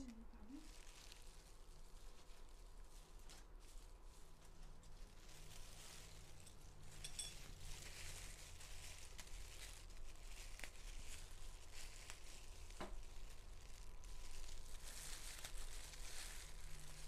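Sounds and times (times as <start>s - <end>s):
herb leaves rustling: 0.0s - 17.0s
plastic gloves crinkling: 0.0s - 17.0s.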